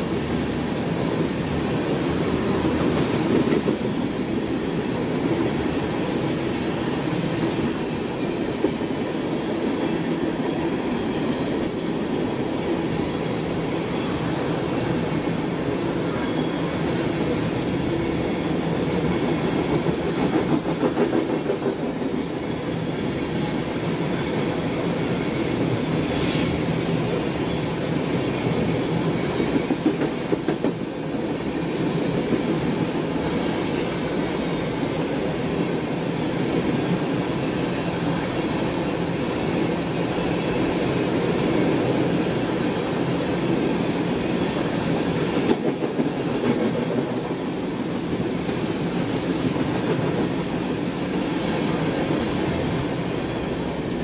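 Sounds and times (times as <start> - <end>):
steel wheels rumbling on rail: 0.0 - 54.0
rhythmic clacks over rail joints: 0.1 - 54.0.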